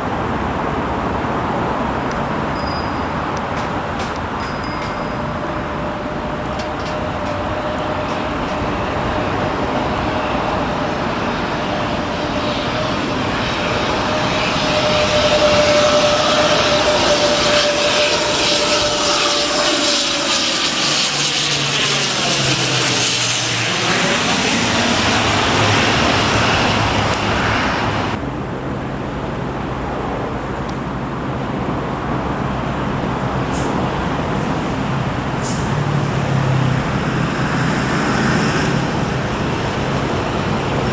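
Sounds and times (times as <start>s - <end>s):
turboprop plane droning overhead: 0.0s - 40.9s.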